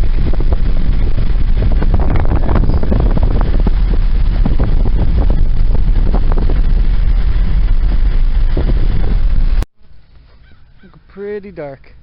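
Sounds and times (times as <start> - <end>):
wind buffeting microphone: 0.0 - 9.6
car road noise: 0.0 - 10.4.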